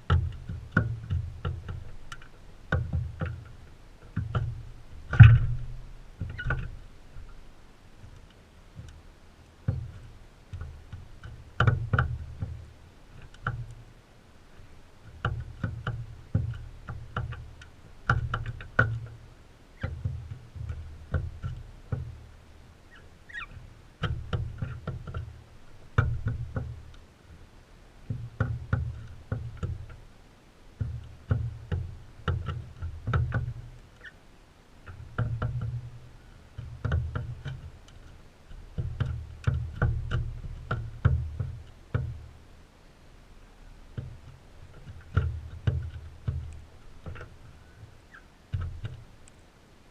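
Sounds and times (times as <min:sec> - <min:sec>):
dull thumps: 0:00.0 - 0:09.0, 0:09.6 - 0:27.4, 0:28.0 - 0:30.1, 0:30.7 - 0:34.1, 0:34.8 - 0:42.3, 0:43.7 - 0:49.3.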